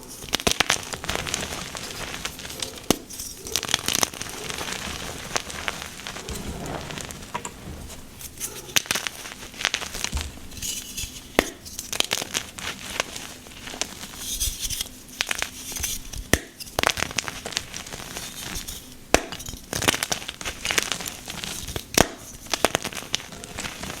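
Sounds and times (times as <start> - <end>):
chalk being crushed: 0.0 - 24.0.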